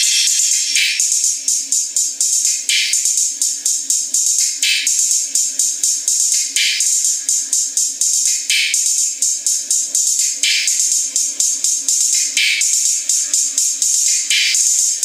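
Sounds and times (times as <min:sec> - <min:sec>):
hi-hat-like ticks: 0:00.0 - 0:15.0.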